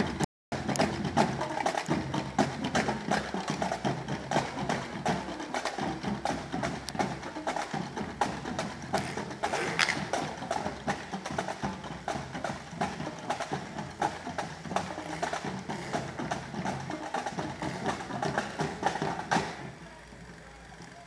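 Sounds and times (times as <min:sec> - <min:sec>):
marching drumline cadence: 0:00.0 - 0:21.0.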